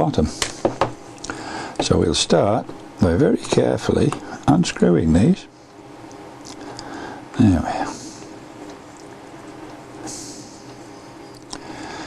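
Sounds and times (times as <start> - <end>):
computer fans humming: 0.0 - 12.0.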